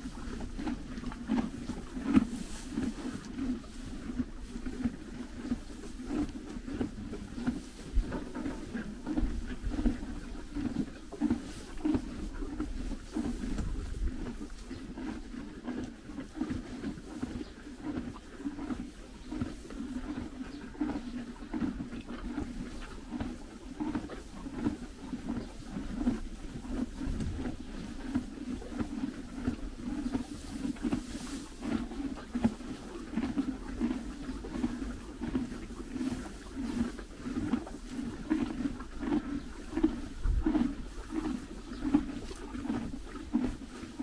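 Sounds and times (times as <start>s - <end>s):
horse chewing hay: 0.0s - 44.0s.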